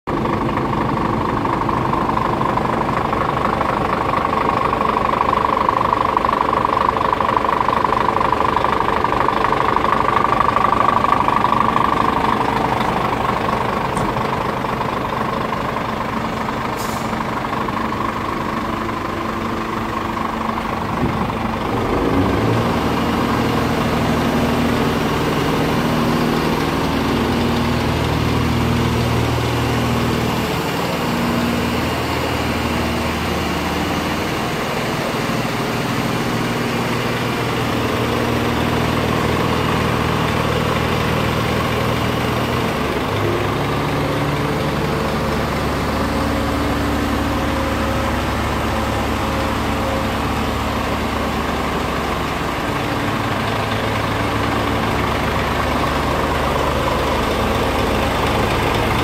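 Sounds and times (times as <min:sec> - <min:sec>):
diesel engine idling: 0:00.1 - 0:59.0.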